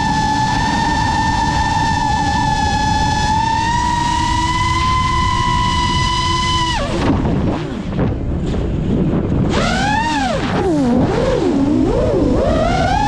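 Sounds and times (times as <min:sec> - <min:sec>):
quadcopter motors whining: 0:00.0 - 0:07.7, 0:09.5 - 0:13.0
wind rushing over microphone: 0:00.0 - 0:13.0.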